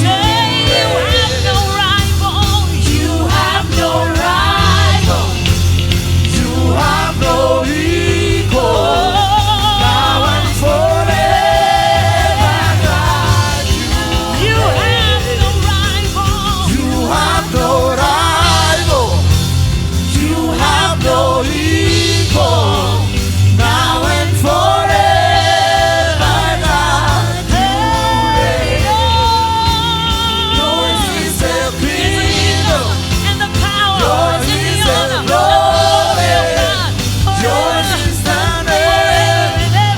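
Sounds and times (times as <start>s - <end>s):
backing voices: 0.0s - 39.9s
band with steady bass: 0.0s - 39.9s
lead singer: 0.0s - 39.9s.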